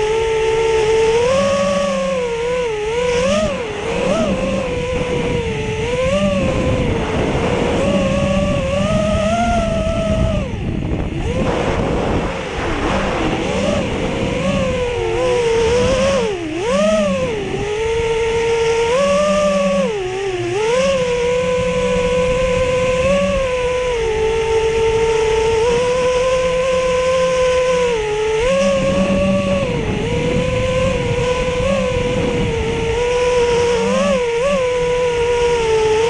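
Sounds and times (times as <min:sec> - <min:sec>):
drone motors whining: 0:00.0 - 0:36.0
wind rumble on microphone: 0:00.0 - 0:36.0.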